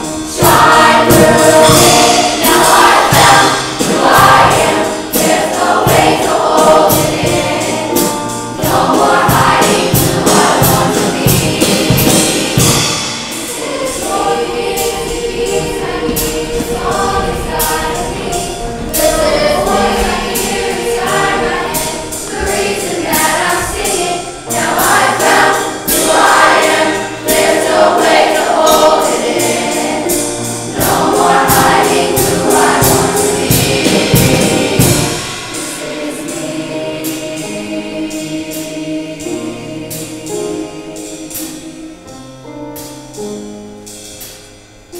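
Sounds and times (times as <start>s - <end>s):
choir singing over accompaniment: 0.0s - 44.9s.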